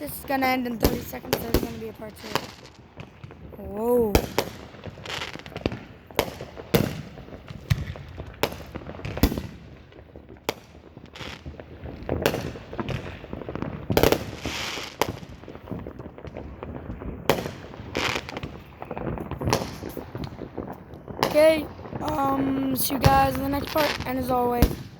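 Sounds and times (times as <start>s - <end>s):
fireworks bangs: 0.0s - 24.9s
fireworks crackling hiss: 0.0s - 24.9s.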